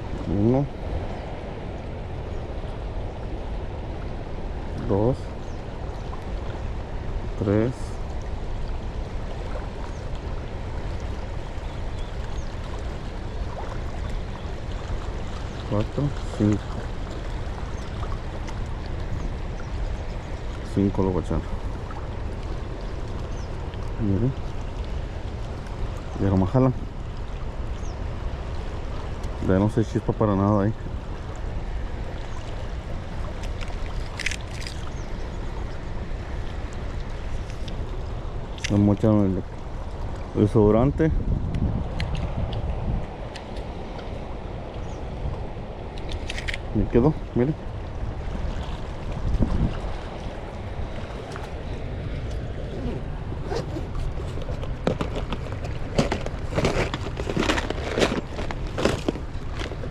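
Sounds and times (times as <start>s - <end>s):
rumbling outdoor background noise: 0.0s - 59.9s.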